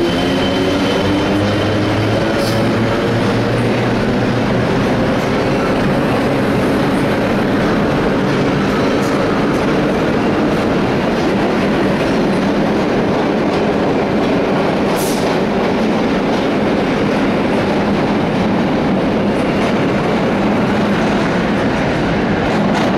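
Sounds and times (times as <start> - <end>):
subway train rumbling: 0.0 - 22.9.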